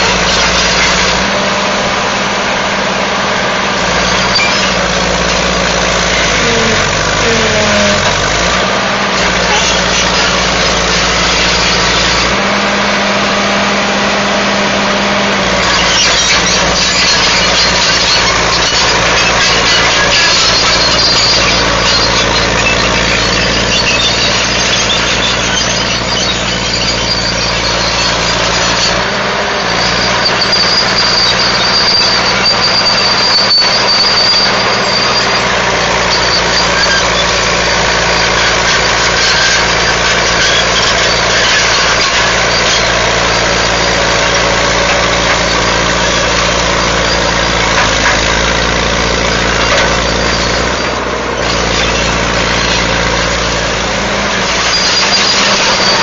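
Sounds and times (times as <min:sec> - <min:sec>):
diesel engine under load: 0:00.0 - 0:56.0
loader pushing over brush: 0:00.0 - 0:56.0
thin high squeal: 0:04.0 - 0:08.5, 0:09.2 - 0:12.3, 0:15.6 - 0:56.0.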